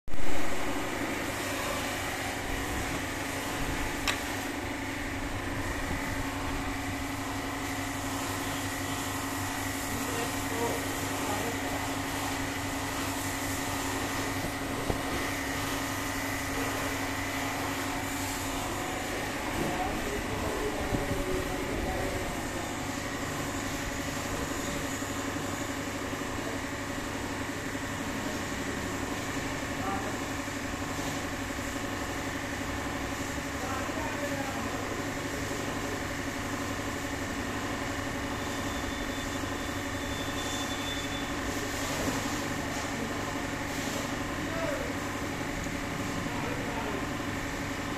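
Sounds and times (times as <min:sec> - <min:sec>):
steady machine hum: 0:00.1 - 0:47.9.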